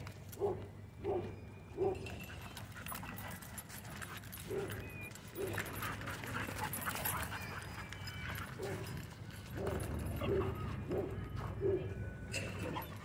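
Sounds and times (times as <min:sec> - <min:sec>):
dogs barking: 0:00.3 - 0:13.0
dog whining: 0:01.0 - 0:13.0.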